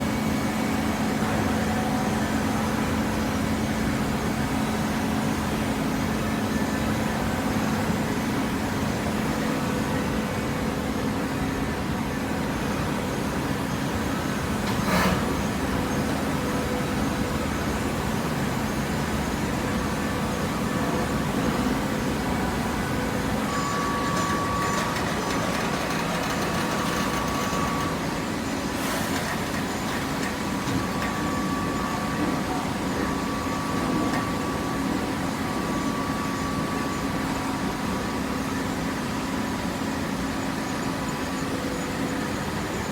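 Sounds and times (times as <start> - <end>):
machine running with low hum: 0.0 - 42.9.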